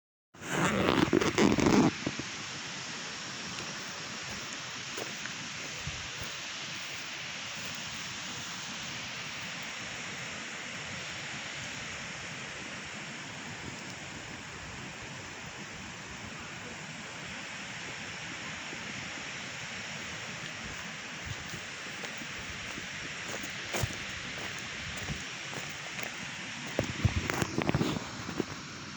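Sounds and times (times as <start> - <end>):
heavy rain hissing: 0.4 - 28.9.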